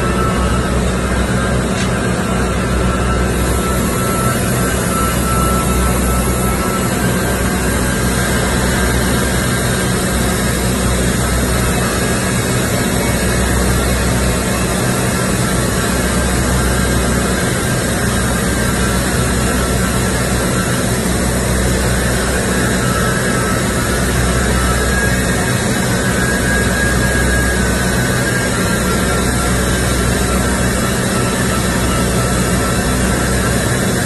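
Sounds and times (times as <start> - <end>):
low machine drone: 0.0 - 34.0.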